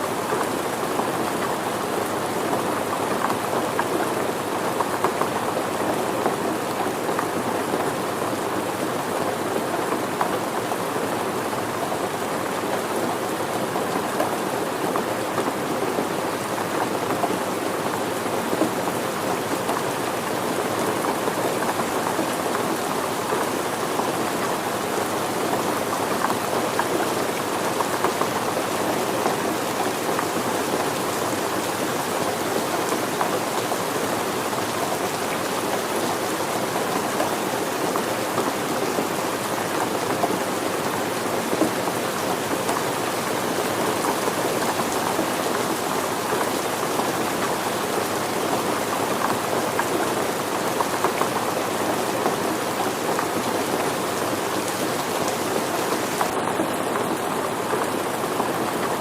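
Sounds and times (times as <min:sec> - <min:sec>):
steady rain pattering: 0:00.0 - 0:59.0.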